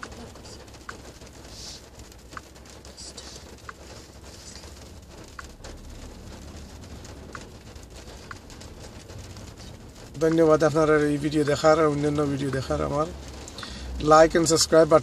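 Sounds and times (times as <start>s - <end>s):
rain on car roof: 0.0s - 15.0s
single raindrops ticking: 0.0s - 15.0s.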